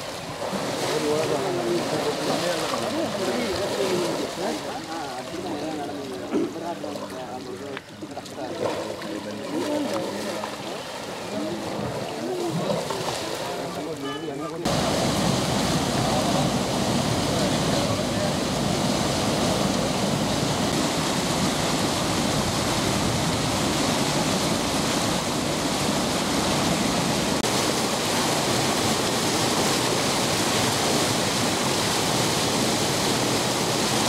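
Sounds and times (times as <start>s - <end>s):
water rushing over a weir: 0.0s - 34.0s.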